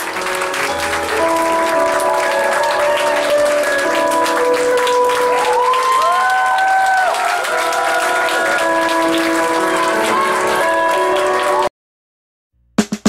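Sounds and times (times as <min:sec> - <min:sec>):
applause: 0:00.0 - 0:11.7
music with long held notes: 0:00.0 - 0:11.7.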